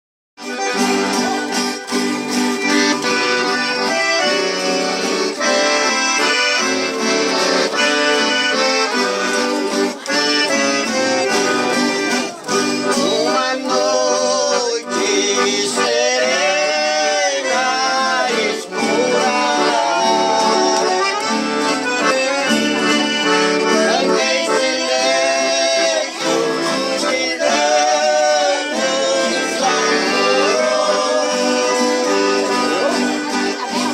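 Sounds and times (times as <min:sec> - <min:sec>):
accordion playing a tune: 0:00.4 - 0:33.9.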